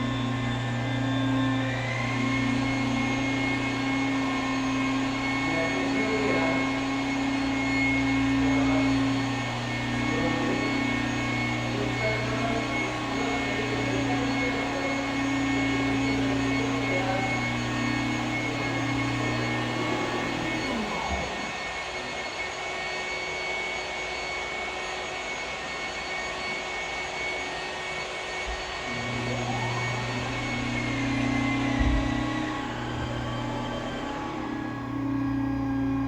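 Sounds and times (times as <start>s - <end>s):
polishing machine motor humming: 0.0s - 21.7s, 28.4s - 36.0s.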